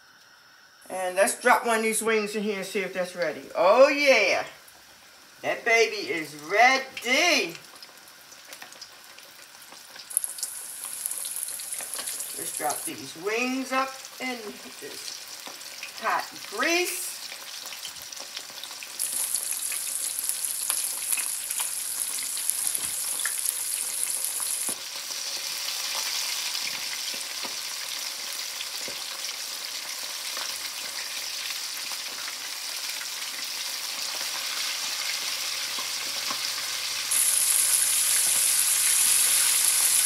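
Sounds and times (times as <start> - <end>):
chicken deep-frying with pops: 6.9 - 40.0.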